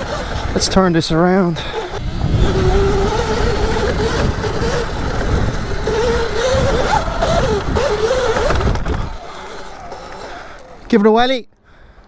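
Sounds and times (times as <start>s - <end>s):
electric dirt bike motor whining: 0.0s - 11.1s.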